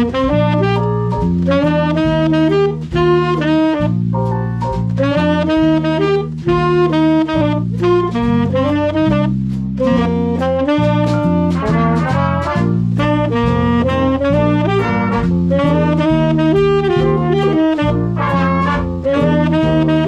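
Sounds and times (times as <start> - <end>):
low bass line: 0.0 - 20.0
swing band playing: 0.0 - 20.0.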